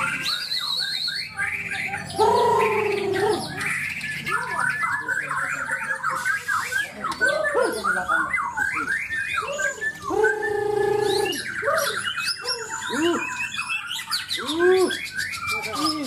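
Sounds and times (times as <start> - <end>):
birds singing whistled phrases: 0.0 - 16.0.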